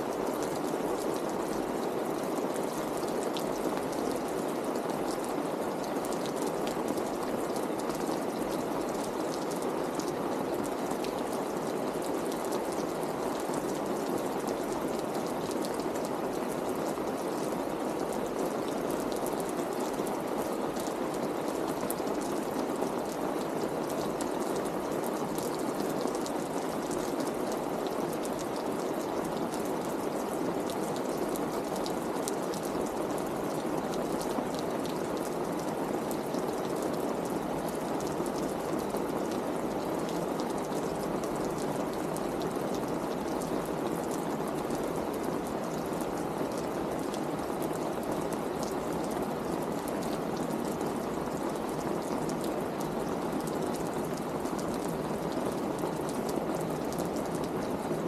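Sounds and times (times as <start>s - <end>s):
rain on wet street: 0.0s - 58.0s.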